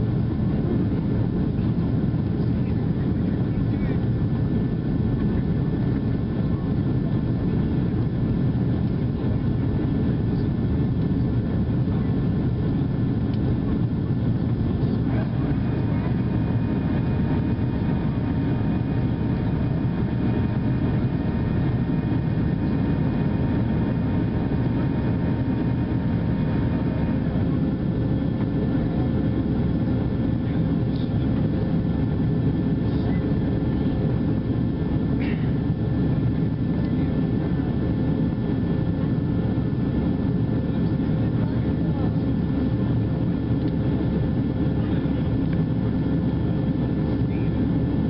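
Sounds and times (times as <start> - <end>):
jet engine drone in cabin: 0.0 - 48.0.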